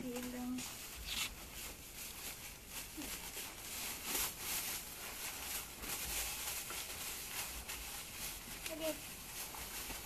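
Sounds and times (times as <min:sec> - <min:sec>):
plastic bag rustling and crinkling: 0:00.0 - 0:10.0.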